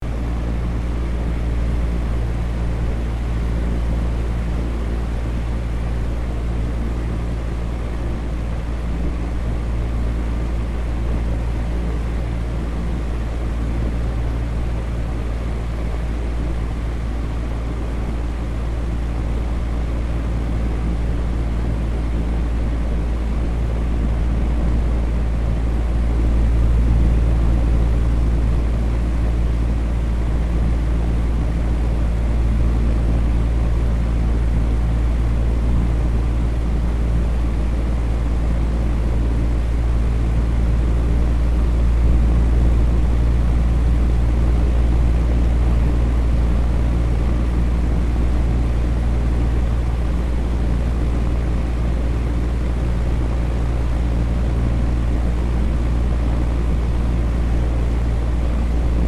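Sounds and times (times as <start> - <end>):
electric fan running: 0.0 - 59.0
faint hum: 0.0 - 59.0.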